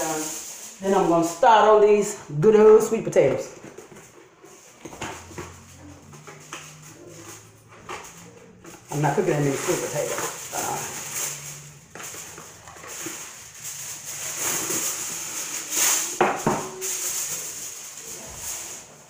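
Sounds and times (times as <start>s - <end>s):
aluminum foil crinkling: 0.0s - 1.7s, 3.4s - 19.0s.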